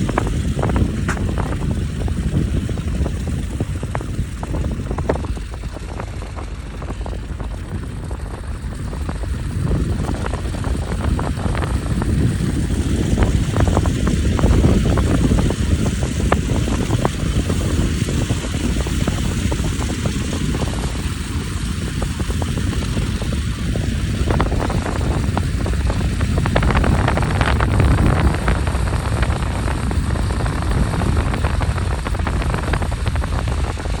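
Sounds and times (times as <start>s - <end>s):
vehicle low rumble: 0.0s - 34.0s.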